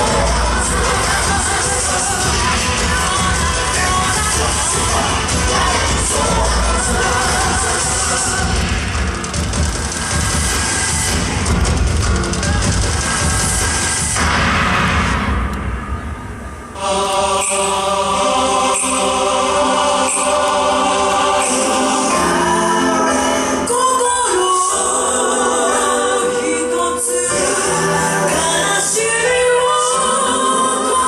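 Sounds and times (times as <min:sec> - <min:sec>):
chorus of voices singing: 0:00.0 - 0:11.4, 0:16.7 - 0:31.0.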